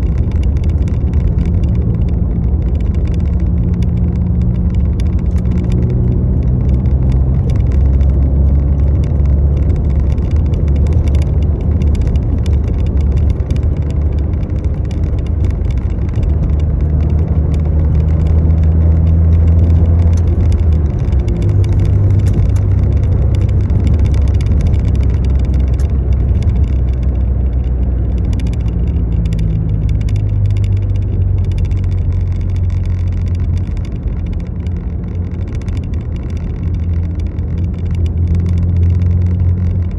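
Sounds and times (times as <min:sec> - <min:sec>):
steady rushing noise: 0:00.0 - 0:39.9
vehicle engine humming: 0:00.0 - 0:39.9.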